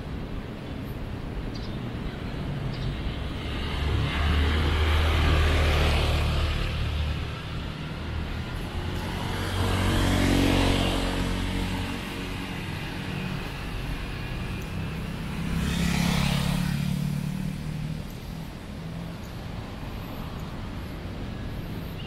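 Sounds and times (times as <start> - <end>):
vehicles driving past: 0.0 - 22.0.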